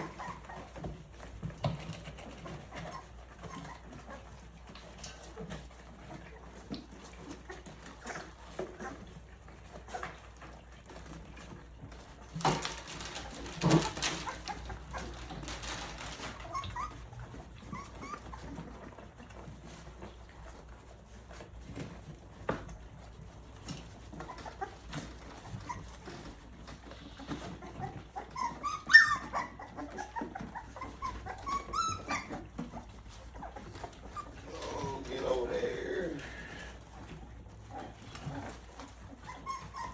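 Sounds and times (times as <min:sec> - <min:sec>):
puppies whimpering and squeaking: 0:00.0 - 0:35.5, 0:36.8 - 0:39.9.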